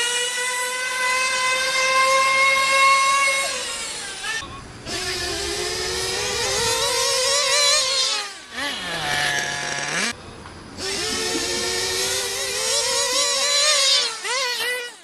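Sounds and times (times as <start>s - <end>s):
radio-controlled car motor whining: 0.0s - 10.2s, 10.8s - 15.0s.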